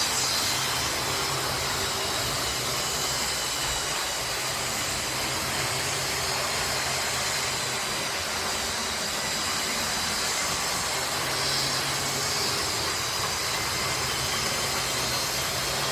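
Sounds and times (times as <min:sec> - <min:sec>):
model train mechanical hum: 0:00.0 - 0:15.9.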